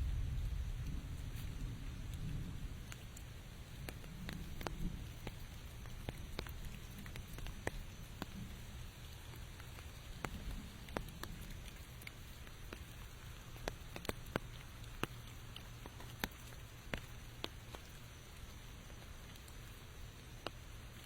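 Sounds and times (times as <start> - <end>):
steady low rumble: 0.0 - 20.2
raindrops tapping on surfaces: 0.0 - 21.0.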